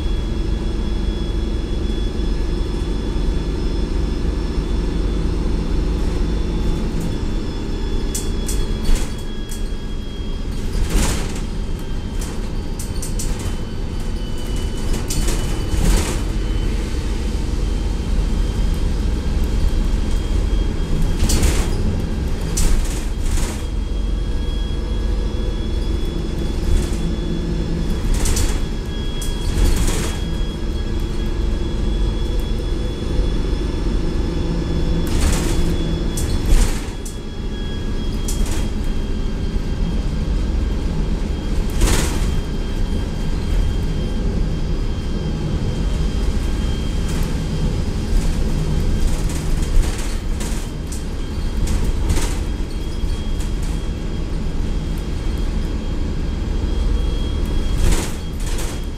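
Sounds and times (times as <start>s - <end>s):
bus body rattles and clunks: 0.0s - 58.9s
bus diesel engine drone: 0.0s - 58.9s
faint high whine: 0.0s - 58.9s.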